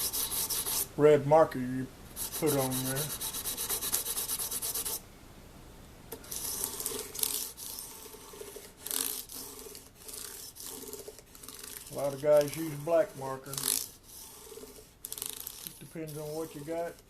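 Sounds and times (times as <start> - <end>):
sandpaper rubbing metal frets: 0.0 - 0.8, 2.2 - 5.0, 6.3 - 17.0.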